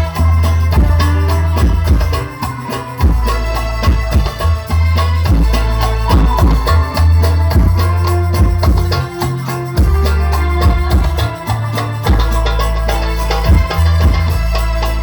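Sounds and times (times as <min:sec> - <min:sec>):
devotional music over sound system: 0:00.0 - 0:15.0.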